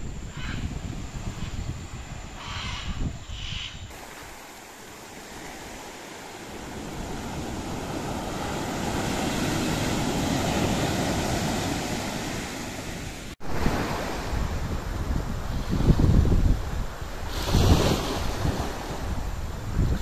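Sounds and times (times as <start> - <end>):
ocean surf breaking on shore: 3.9 - 20.0.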